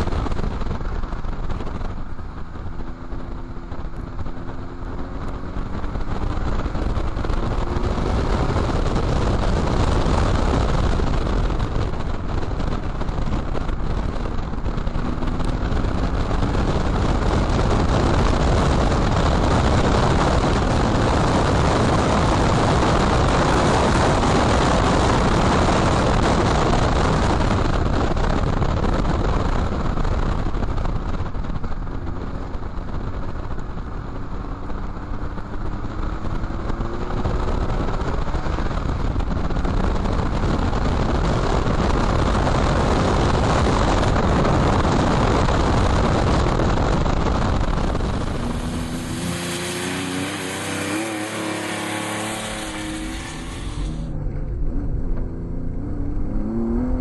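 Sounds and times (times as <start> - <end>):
wind rushing: 0.0 - 32.8, 34.0 - 54.3
tyre noise on wet track: 0.0 - 54.1
car engine accelerating: 0.0 - 57.0.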